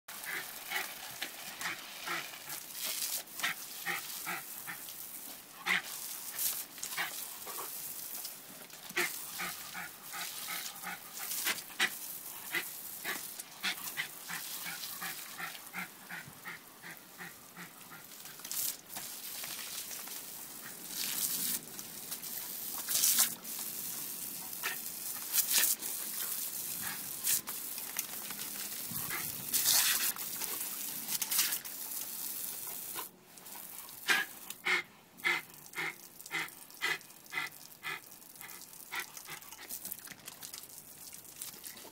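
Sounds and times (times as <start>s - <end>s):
hose water hissing on paving: 0.1s - 41.9s.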